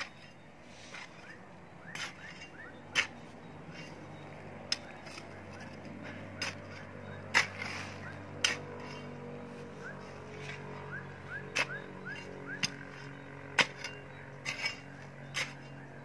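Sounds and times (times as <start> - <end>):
spade clinking and scraping: 0.0 - 16.0.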